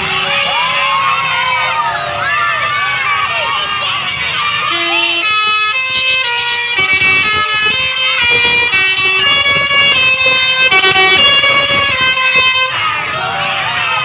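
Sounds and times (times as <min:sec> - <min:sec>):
bus horn playing a tune: 0:00.0 - 0:01.3, 0:03.4 - 0:14.0.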